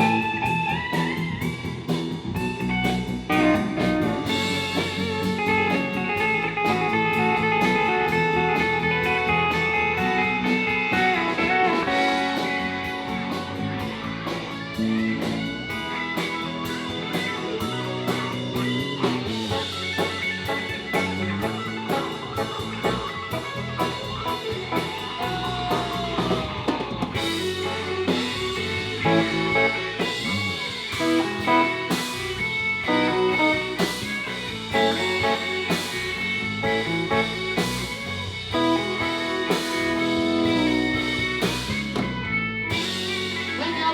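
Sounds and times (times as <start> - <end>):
drum kit: 0.0 - 43.9
lead guitar: 0.0 - 43.9.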